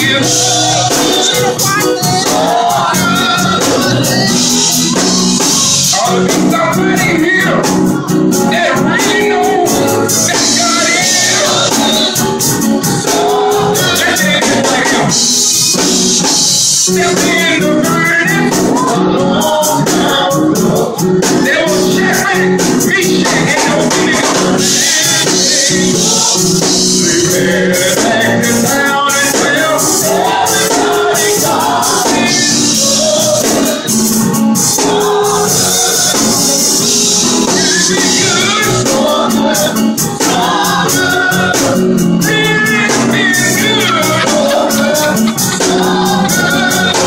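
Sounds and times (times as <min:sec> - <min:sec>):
church keyboard: 0:00.0 - 0:47.0
fast percussive beat: 0:00.0 - 0:47.0
voices singing gospel: 0:00.0 - 0:47.0.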